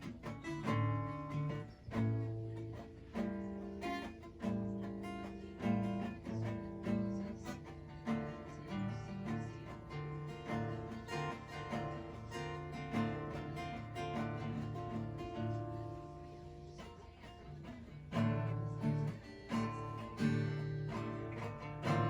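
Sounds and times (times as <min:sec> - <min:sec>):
acoustic guitar plucking and strumming: 0:00.0 - 0:22.0.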